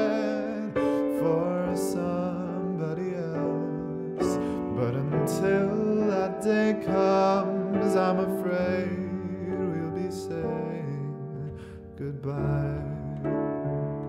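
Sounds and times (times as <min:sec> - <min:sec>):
person singing: 0:00.0 - 0:14.0
slow piano ballad: 0:00.0 - 0:14.0.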